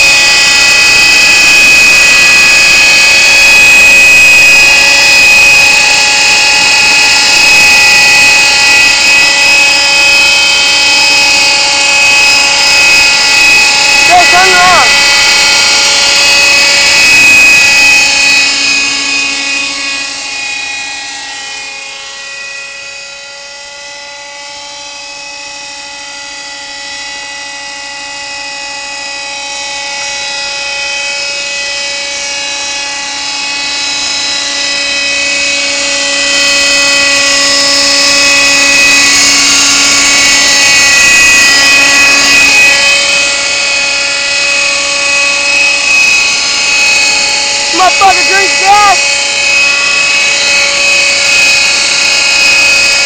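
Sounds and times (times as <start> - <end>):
helicopter rotor: 0.0 - 53.0
model helicopter engine whine: 0.0 - 53.0.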